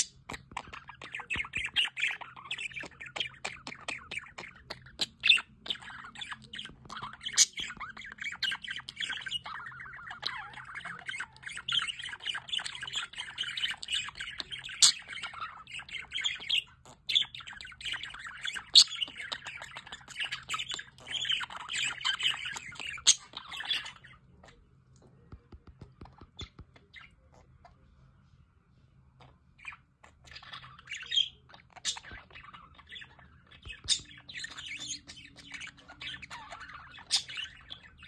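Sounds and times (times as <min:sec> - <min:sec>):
budgerigars chattering: 0:00.0 - 0:24.6, 0:29.2 - 0:38.0.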